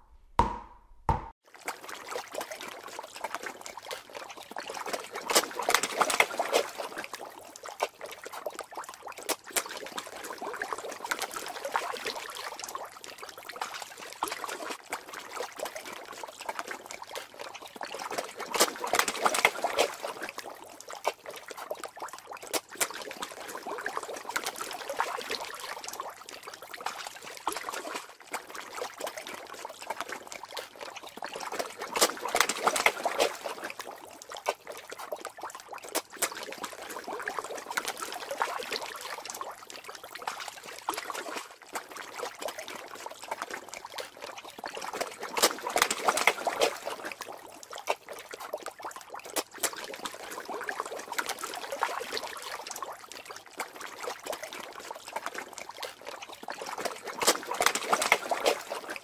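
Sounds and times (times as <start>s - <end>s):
water bubbling and trickling: 1.4s - 59.0s.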